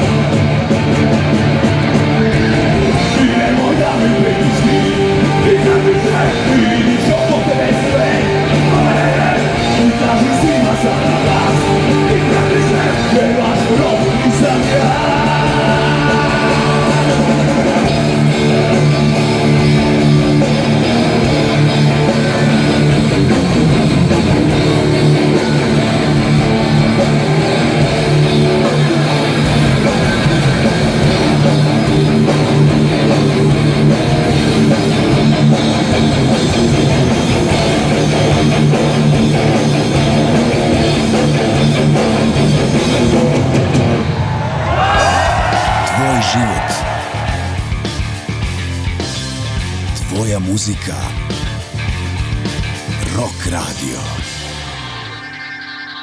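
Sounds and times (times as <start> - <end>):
electric guitars: 0.0 - 50.1, 50.8 - 56.0
drum kit: 0.0 - 55.0
bass guitar: 0.0 - 56.0.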